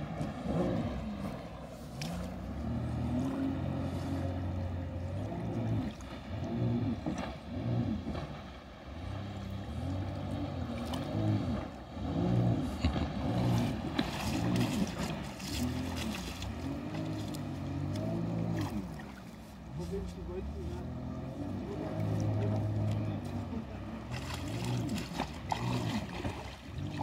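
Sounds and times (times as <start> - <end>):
jet ski engine running: 0.0 - 27.0.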